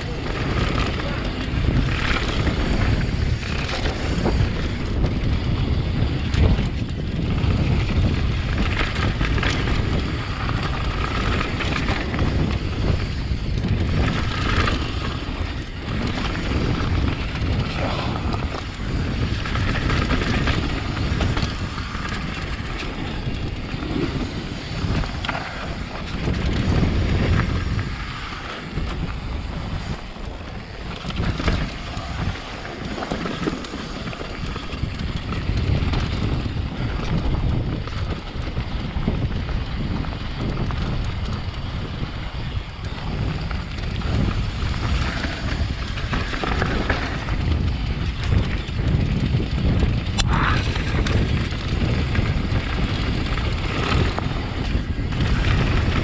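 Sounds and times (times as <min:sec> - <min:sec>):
bike knocking and rattling: 0:00.0 - 0:56.0
bike tyres rumbling on dirt trail: 0:00.0 - 0:56.0
wind buffeting microphone: 0:00.0 - 0:56.0.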